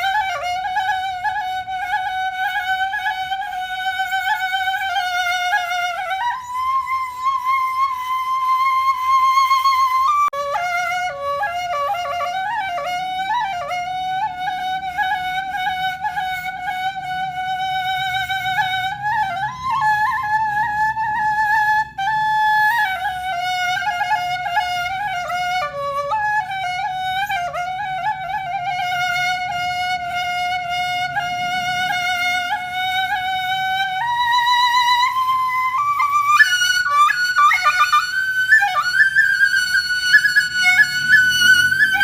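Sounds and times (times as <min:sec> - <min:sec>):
solo flute melody: 0:00.0 - 0:42.0.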